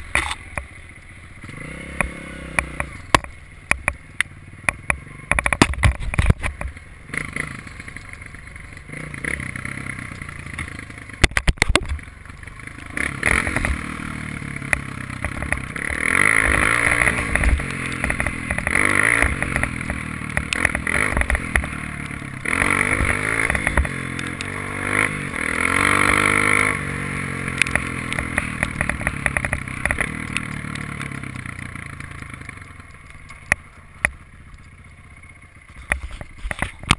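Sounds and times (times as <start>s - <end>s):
dirt bike engine revving: 1.4s - 3.3s, 4.9s - 32.8s
bike clattering over rough ground: 4.7s - 9.1s, 9.8s - 34.9s, 35.6s - 36.9s.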